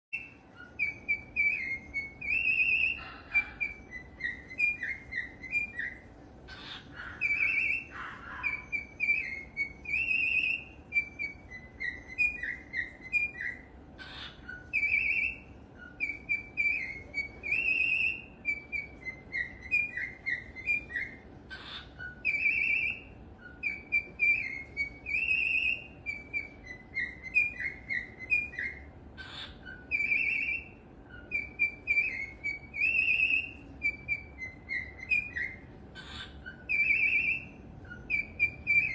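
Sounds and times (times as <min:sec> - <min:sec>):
cockatiel whistling a tune: 0:00.2 - 0:38.9.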